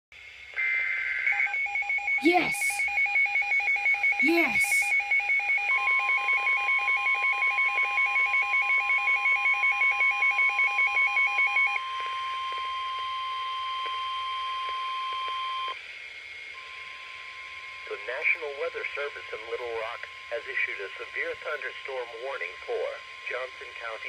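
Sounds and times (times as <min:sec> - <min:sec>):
steady warning alarm tone: 0:01.4 - 0:15.7, 0:16.6 - 0:24.0.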